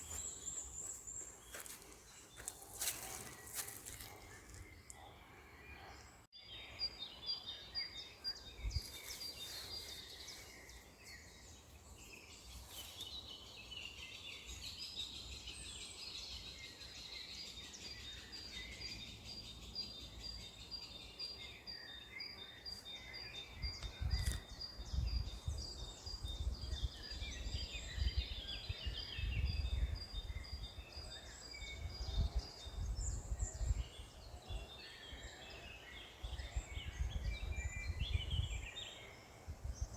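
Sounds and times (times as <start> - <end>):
wild birds chirping and singing: 0.0 - 39.9.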